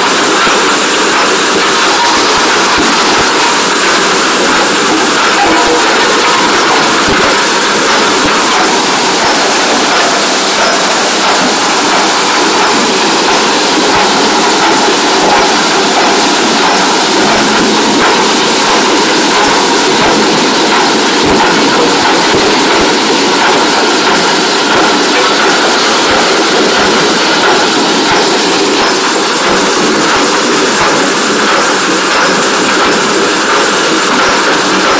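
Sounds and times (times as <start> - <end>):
dredger machinery running: 0.0 - 34.9
water spray: 0.0 - 34.9.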